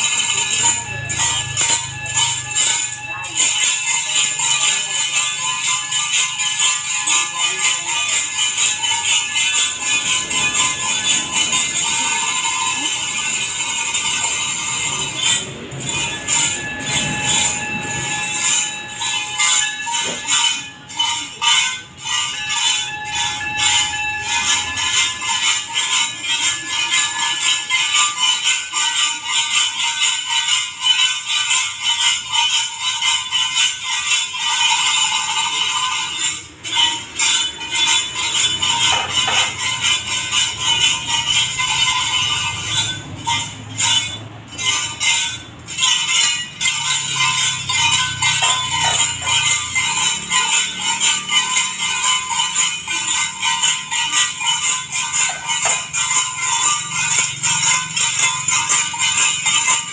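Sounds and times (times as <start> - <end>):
metal bells jingling: 0.0 - 59.9.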